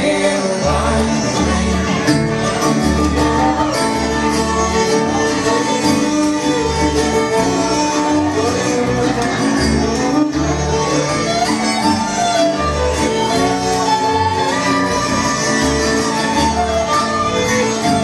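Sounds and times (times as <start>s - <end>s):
bass line: 0.0s - 18.0s
bluegrass band playing: 0.0s - 18.0s
fiddle: 0.0s - 18.0s
guitar: 0.0s - 18.0s.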